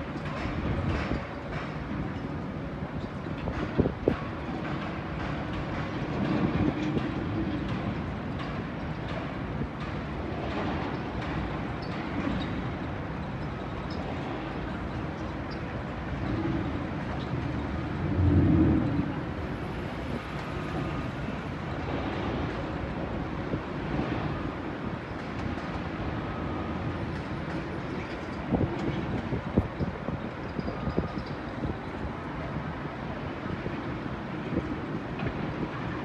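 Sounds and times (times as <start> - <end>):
wind rumbling on microphone: 0.0 - 12.8, 13.7 - 36.0
distant city traffic hum: 0.0 - 36.0.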